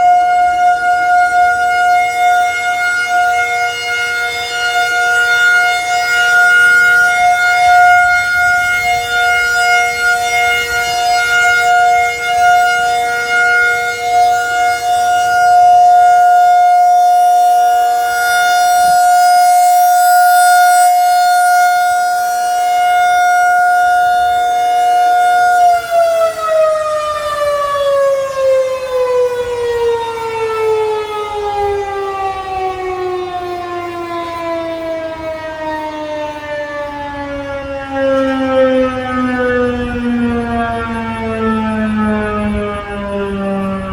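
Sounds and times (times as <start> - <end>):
outdoor warning siren: 0.0 - 43.9.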